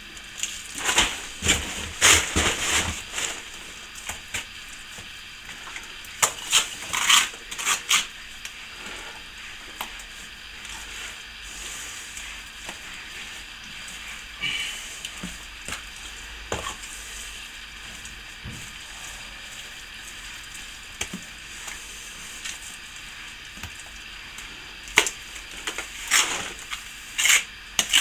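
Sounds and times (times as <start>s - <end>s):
render scraping and stirring: 0.4s - 28.0s.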